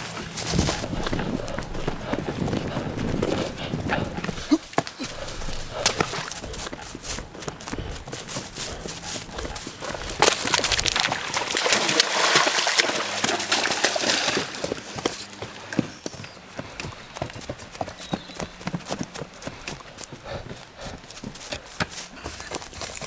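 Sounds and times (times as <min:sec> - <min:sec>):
running footsteps on leaves and earth: 0:00.0 - 0:23.0.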